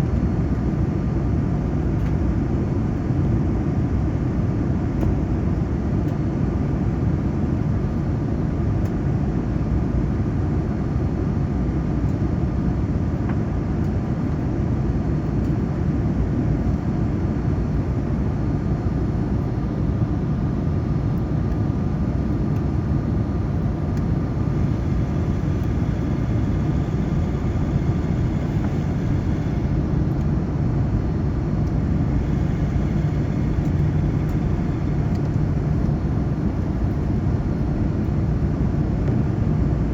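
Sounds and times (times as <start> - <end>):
airliner cabin engine rumble: 0.0 - 39.9
faint steady hum: 0.0 - 39.9.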